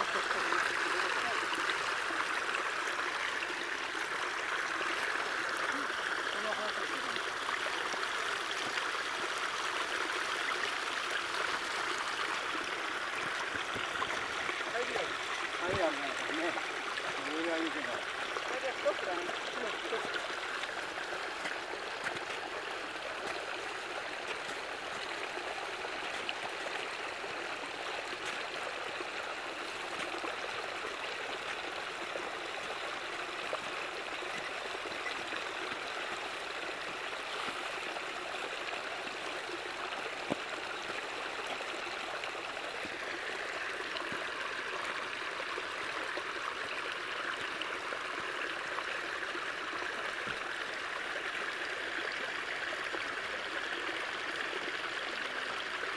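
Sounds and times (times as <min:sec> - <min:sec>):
water flowing: 0:00.0 - 0:55.9.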